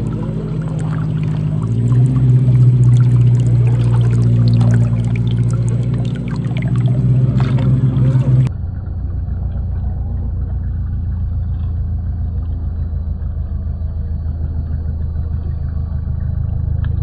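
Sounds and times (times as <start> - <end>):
muffled low rumble: 0.0 - 17.0.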